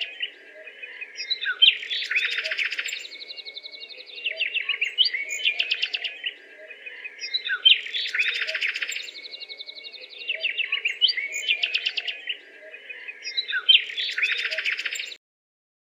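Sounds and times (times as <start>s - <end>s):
songbirds chirping and trilling: 0.0s - 15.2s.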